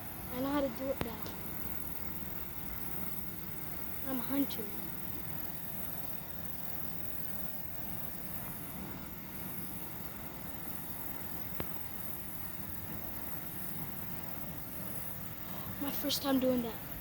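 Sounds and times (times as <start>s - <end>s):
insects trilling: 0.0s - 17.0s
low background rumble: 0.0s - 17.0s.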